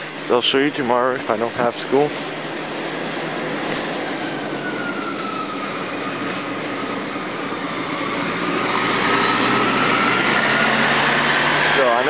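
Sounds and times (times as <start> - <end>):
sliding whining tone: 0.0 - 12.0
vehicle engine running: 0.0 - 12.0.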